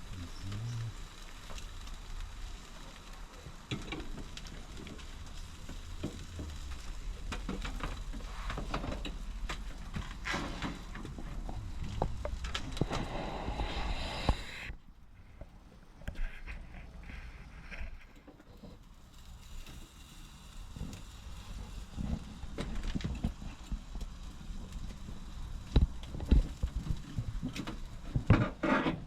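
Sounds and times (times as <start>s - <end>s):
meat sizzling on barbecue: 0.0s - 14.7s, 16.4s - 29.0s
fire crackling and popping: 0.0s - 29.0s.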